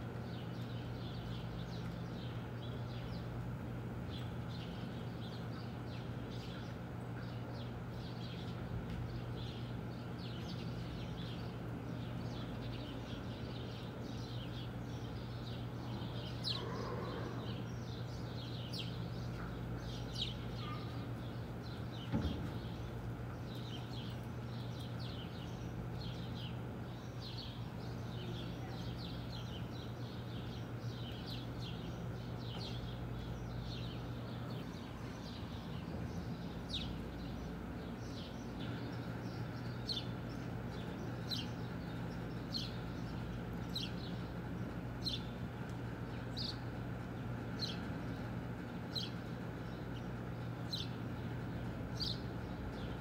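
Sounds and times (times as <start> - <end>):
small birds chirping: 0.0 - 53.0
steady electrical hum: 0.0 - 53.0.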